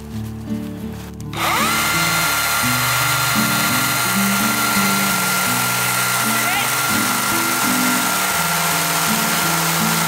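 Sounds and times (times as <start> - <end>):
background music: 0.0 - 10.0
chainsaw cutting log: 1.3 - 10.0.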